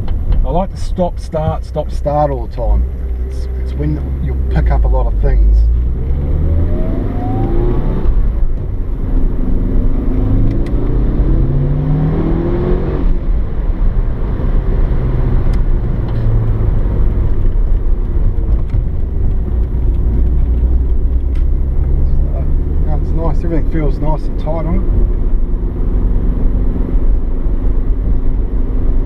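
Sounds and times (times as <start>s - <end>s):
car engine accelerating from inside: 1.9s - 29.0s.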